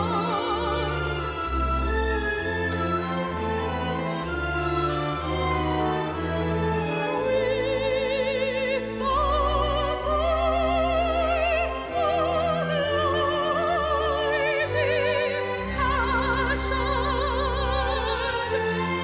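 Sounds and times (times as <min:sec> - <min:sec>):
operatic singing: 0:00.0 - 0:19.0
orchestral accompaniment: 0:00.0 - 0:19.0.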